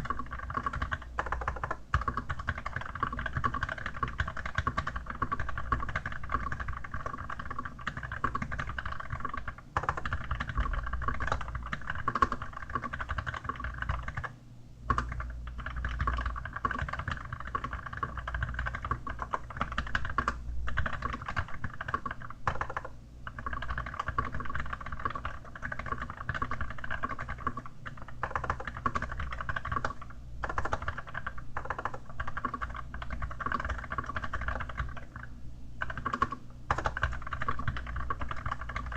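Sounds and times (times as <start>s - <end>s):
typing on mechanical keyboard: 0.0s - 14.3s, 14.9s - 38.9s.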